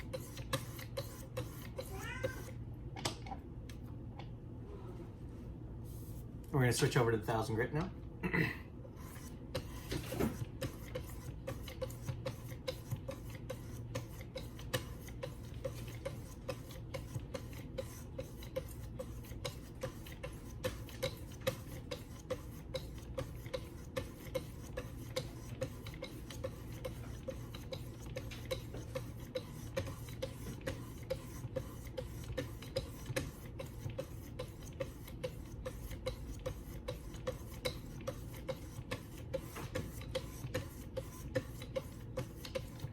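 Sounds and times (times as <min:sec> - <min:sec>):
low background hum: 0:00.0 - 0:42.9.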